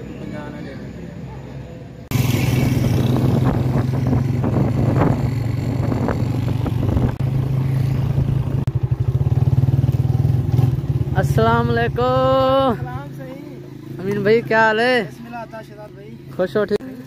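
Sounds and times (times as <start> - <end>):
motorcycle engine running steadily: 2.1 - 17.0.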